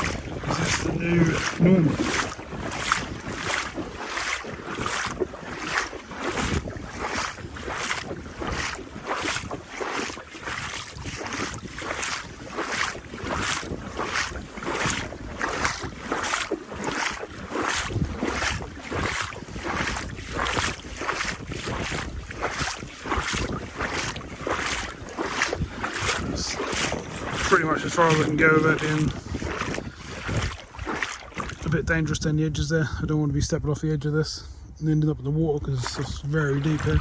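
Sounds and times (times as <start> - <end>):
footsteps splashing through water: 0.0 - 31.8, 35.7 - 37.0
wind buffeting microphone: 0.0 - 37.0.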